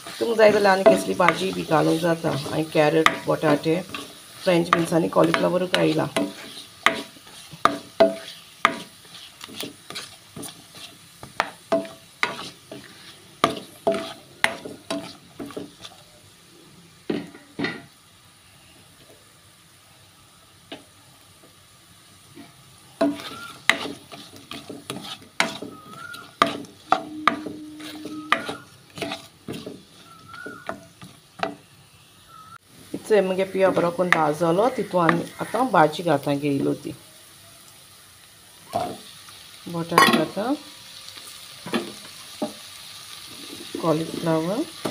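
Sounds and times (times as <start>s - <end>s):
onions sizzling in oil: 0.0s - 44.9s.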